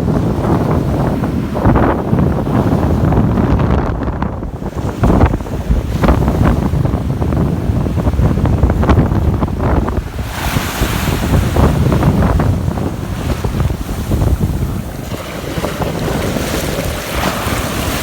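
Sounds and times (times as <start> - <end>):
surf on beach: 0.0 - 18.0
wind buffeting microphone: 0.0 - 18.0.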